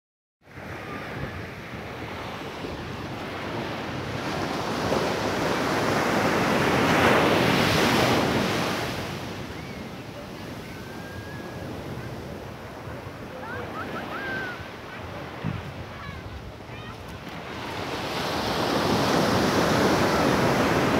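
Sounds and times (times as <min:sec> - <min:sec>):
waves breaking on sandy beach: 0:00.5 - 0:20.9.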